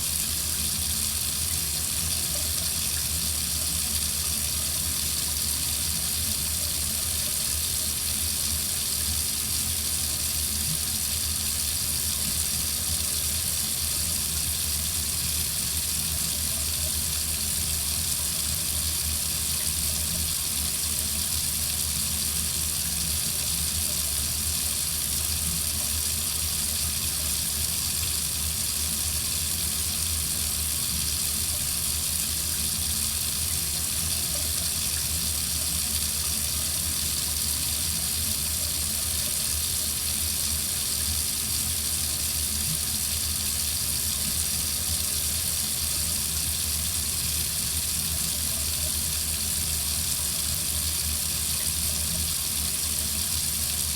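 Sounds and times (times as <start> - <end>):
water running from faucet: 0.0 - 53.9.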